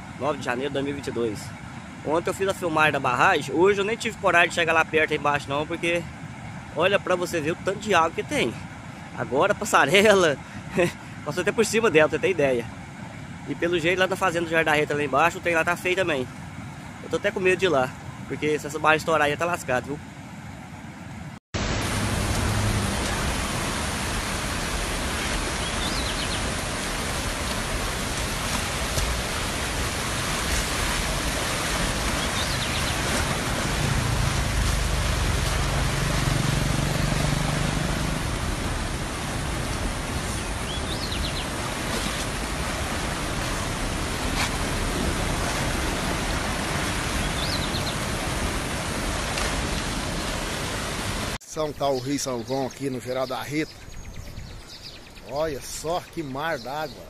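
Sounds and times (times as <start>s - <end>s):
river water rushing: 0.0s - 51.4s.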